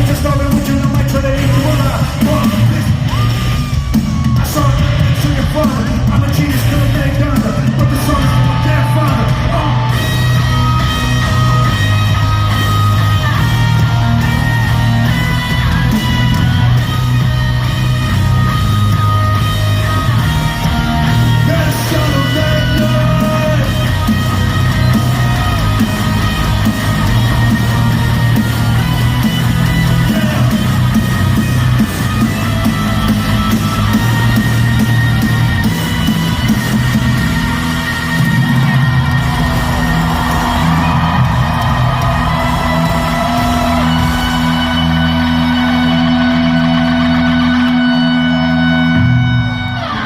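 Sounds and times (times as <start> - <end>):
bass line: 0.0 - 50.0
drums beating: 0.0 - 50.0
electric guitar: 0.0 - 50.0
live rock band: 0.0 - 50.0.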